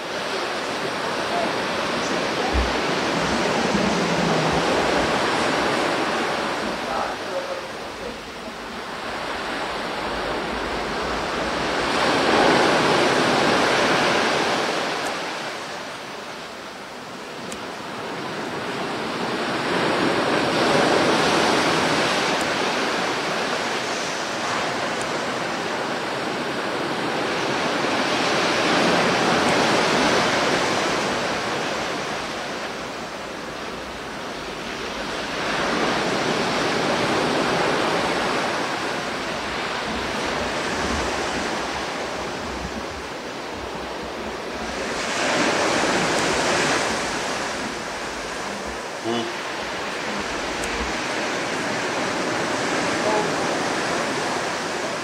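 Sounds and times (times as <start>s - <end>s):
surf breaking on beach: 0.0s - 55.0s.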